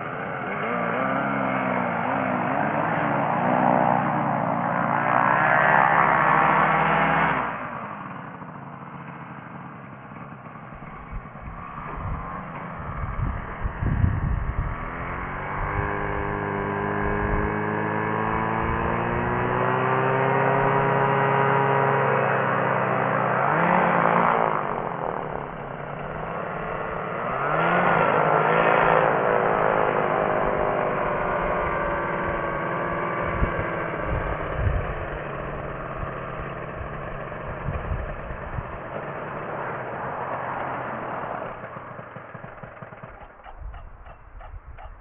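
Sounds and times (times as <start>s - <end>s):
light aircraft engine revving: 0.0s - 45.0s
engine pulsing idle: 7.7s - 19.6s, 20.6s - 45.0s.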